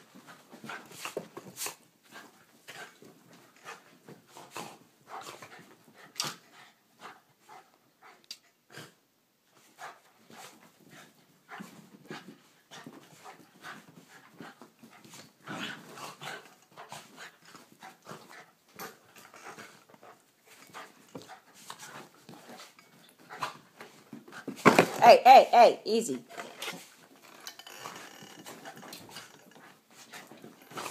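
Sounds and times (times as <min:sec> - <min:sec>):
small dogs play-fighting noises: 0:00.0 - 0:25.0, 0:26.6 - 0:30.9.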